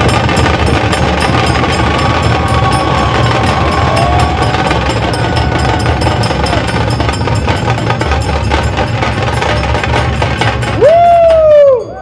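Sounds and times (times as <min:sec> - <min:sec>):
heavy dhol drum beats: 0:00.0 - 0:12.0
rapid tasha drum strokes: 0:00.0 - 0:12.0.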